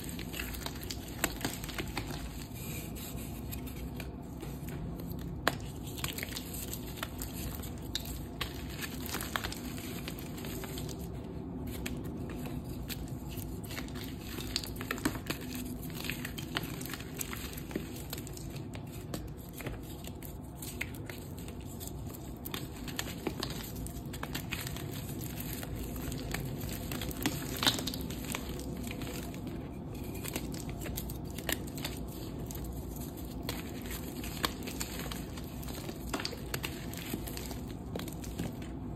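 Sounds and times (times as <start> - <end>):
chalk crunching and crackling: 0.0 - 38.9.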